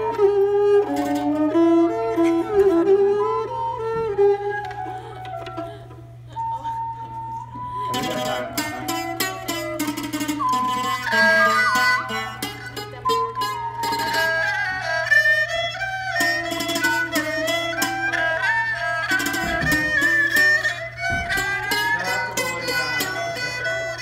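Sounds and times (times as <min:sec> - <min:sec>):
plucked floor zither: 0:00.0 - 0:06.3, 0:07.0 - 0:24.0
bowed two-string fiddle melody: 0:00.0 - 0:24.0.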